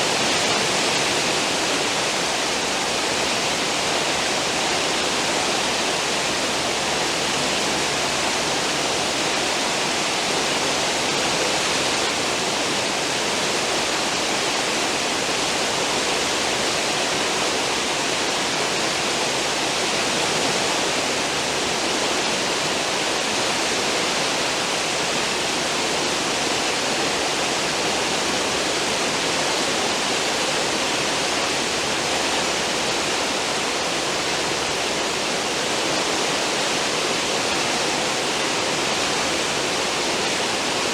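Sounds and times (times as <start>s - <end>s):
churning foaming seawater: 0.0s - 40.9s.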